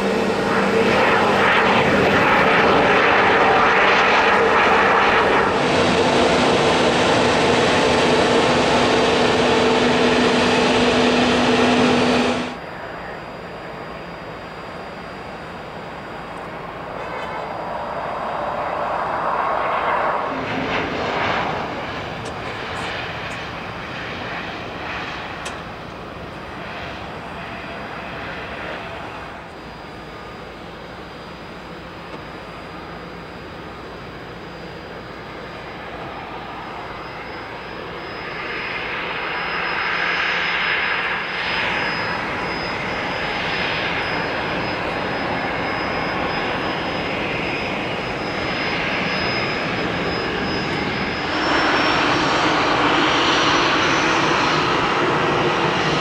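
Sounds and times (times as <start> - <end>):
jet rolling out after landing: 0.0 - 56.0
jet taxiing with turbine whine: 0.0 - 56.0.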